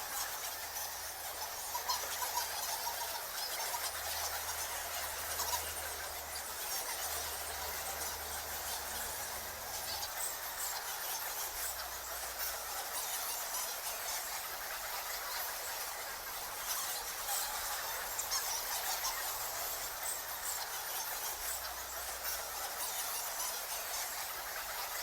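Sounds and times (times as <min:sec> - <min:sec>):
bats squeaking and chittering: 0:00.0 - 0:25.0.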